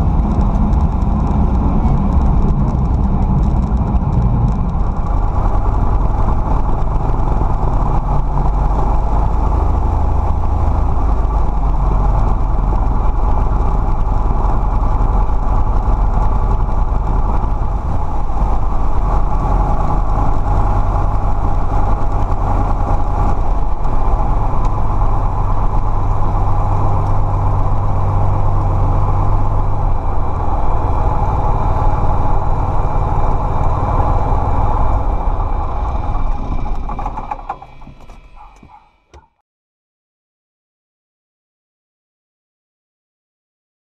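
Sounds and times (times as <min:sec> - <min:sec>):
aircraft engine and propeller: 0:00.0 - 0:38.8.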